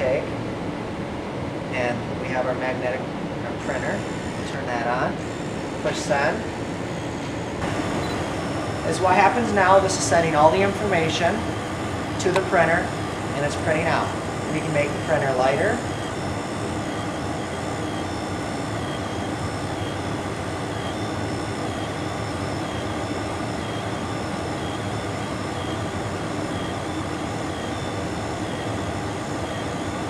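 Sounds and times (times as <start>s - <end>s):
gas furnace rush and hum: 0.0s - 30.0s
thermal printer whine: 0.0s - 30.0s.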